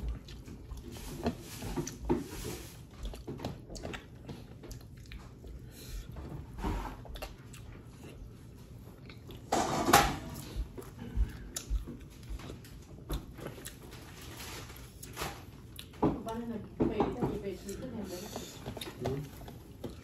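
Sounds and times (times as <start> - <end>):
person chewing: 0.0 - 9.5, 10.3 - 16.4, 17.6 - 20.0.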